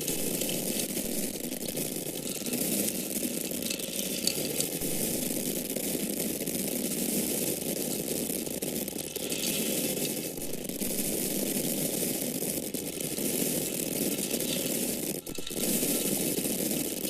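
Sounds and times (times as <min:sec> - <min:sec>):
corn kernels falling: 0:00.0 - 0:17.0.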